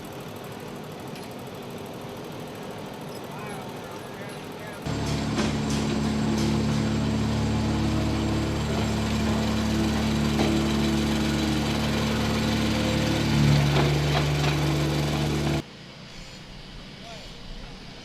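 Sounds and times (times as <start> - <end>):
engine running: 0.0 - 15.7.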